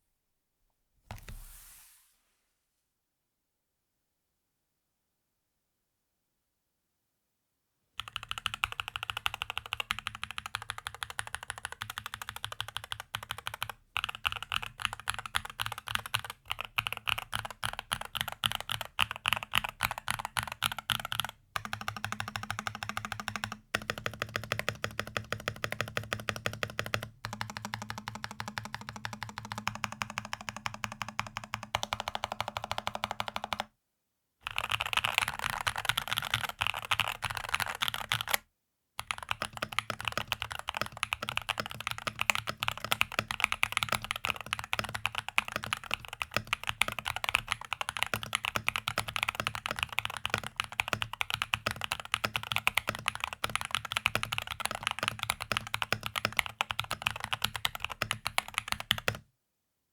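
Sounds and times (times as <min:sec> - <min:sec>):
fast typing on mechanical keyboard: 0:08.0 - 0:33.7, 0:34.4 - 0:38.4, 0:39.0 - 0:59.2.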